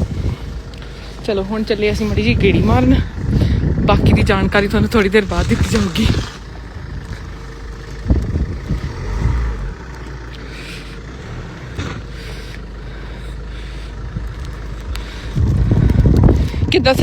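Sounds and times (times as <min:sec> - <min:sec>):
car engine driving off: 0:00.0 - 0:17.0
road rumble: 0:00.0 - 0:17.0.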